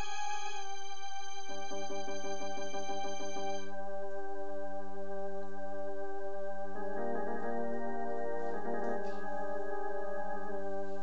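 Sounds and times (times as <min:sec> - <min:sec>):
electronic keyboard organ chords: 0:00.0 - 0:11.0.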